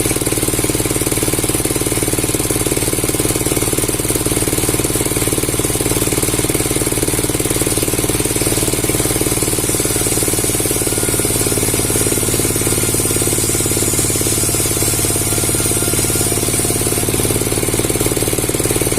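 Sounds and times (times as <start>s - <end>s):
motor-driven wood saw rattling: 0.0s - 18.9s.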